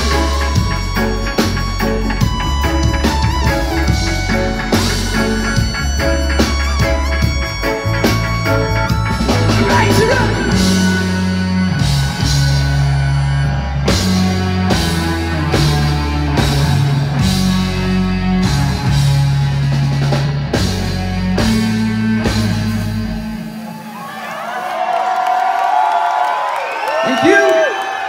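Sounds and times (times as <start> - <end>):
bass guitar notes: 0.0 - 23.7
electric guitar: 0.0 - 23.9
keyboards: 0.0 - 24.0.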